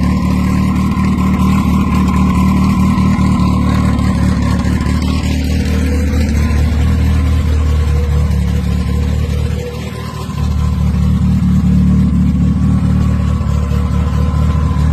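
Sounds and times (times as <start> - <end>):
car engine running: 0.0 - 14.9.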